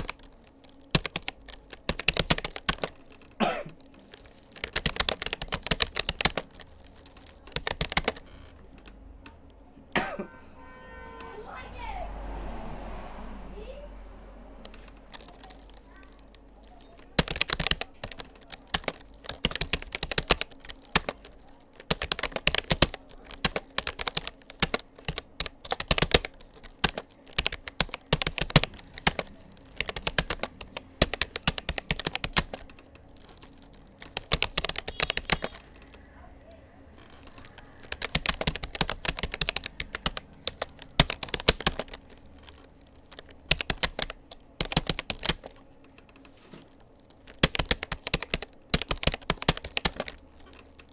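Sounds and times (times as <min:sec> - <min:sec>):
keyboard typing: 0:00.0 - 0:50.9.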